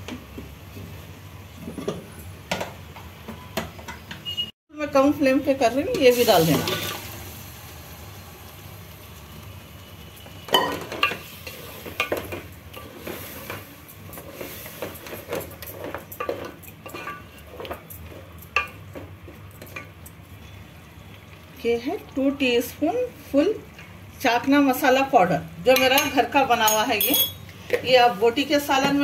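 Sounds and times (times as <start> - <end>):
masala sizzling: 0.0 - 29.0.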